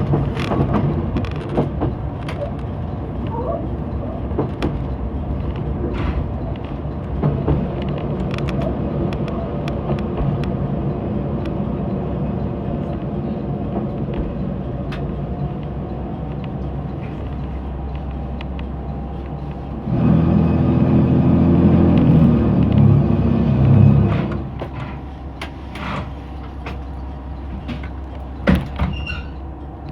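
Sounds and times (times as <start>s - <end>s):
wheels clicking over rail joints: 0.0s - 29.6s
train rumbling: 0.0s - 29.9s.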